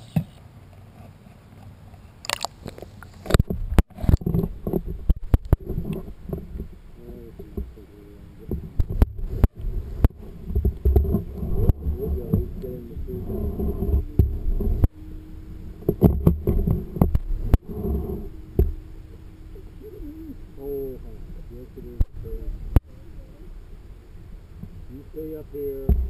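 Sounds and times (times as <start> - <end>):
steady hum: 0.0 - 26.0
underwater rumbling water noise: 2.3 - 26.0.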